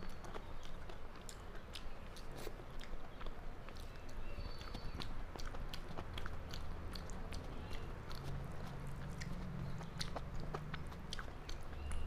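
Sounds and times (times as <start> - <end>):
chewing with wet mouth clicks: 0.0 - 12.0
faint low hum: 0.0 - 12.0
lip smacks: 0.0 - 12.0.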